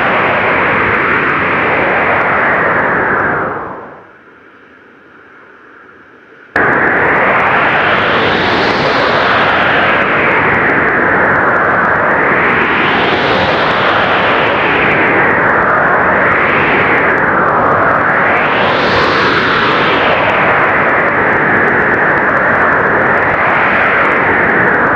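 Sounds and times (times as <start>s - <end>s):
blizzard wind gusting: 0.0s - 4.3s, 6.5s - 24.9s.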